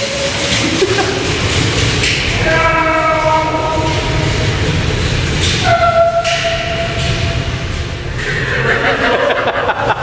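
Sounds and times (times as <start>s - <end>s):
train rumbling in tunnel: 0.0s - 10.0s.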